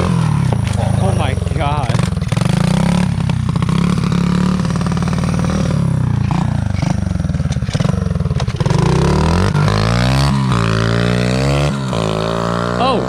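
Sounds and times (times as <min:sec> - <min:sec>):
quad engine revving: 0:00.0 - 0:13.0.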